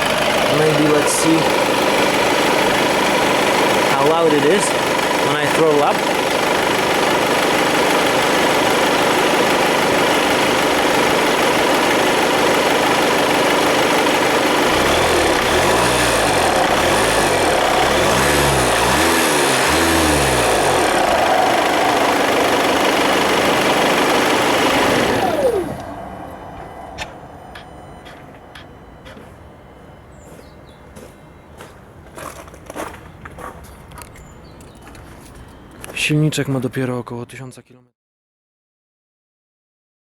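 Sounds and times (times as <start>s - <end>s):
diesel engine idling and revving: 0.0s - 36.1s.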